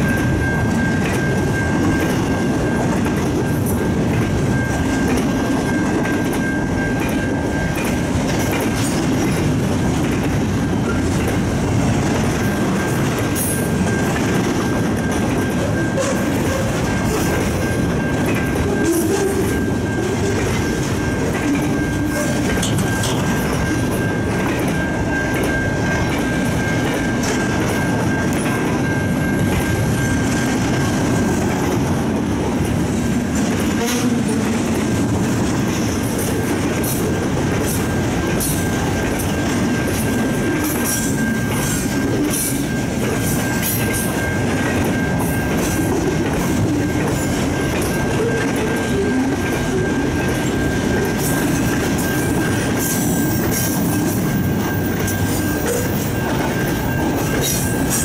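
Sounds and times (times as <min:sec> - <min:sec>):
freight train rolling past: 0:00.0 - 0:58.0
wheels clicking over rail joints: 0:00.0 - 0:58.0.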